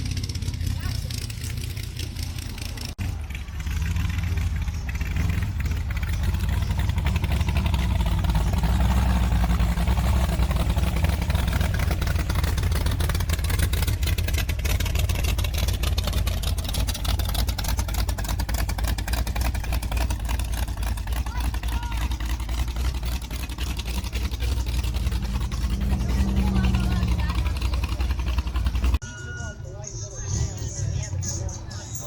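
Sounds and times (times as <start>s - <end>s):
car engine with pulsing exhaust: 0.0s - 32.0s.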